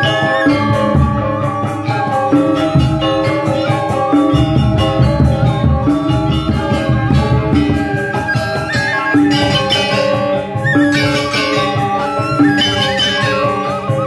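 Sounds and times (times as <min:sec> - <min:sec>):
drum beats: 0:00.0 - 0:14.0
metallophones ringing: 0:00.0 - 0:14.0.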